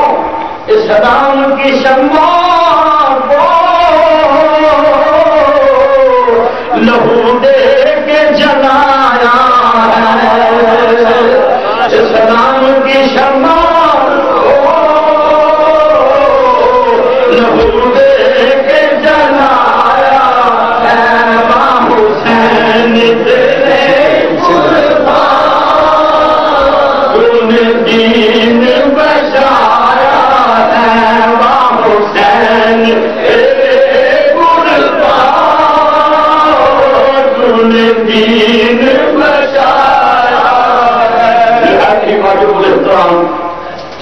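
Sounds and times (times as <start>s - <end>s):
man chanting melodically: 0.0s - 43.6s.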